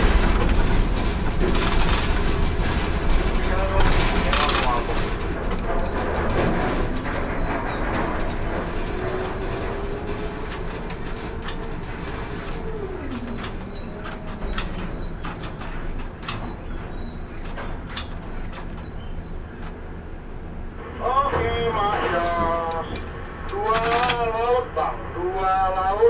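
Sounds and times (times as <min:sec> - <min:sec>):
crane machinery rumble: 0:00.0 - 0:26.0.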